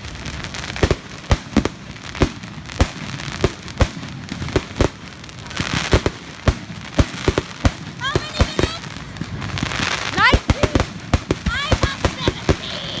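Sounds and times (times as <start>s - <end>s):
fireworks crackling: 0.0s - 13.0s
fireworks sharp bangs: 0.0s - 13.0s
hissing crackle: 0.0s - 13.0s.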